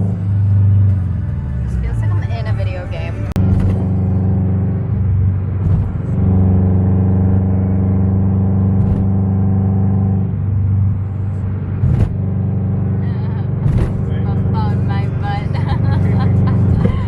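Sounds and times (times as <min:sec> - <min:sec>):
car engine drone from inside cabin: 0:00.0 - 0:17.0.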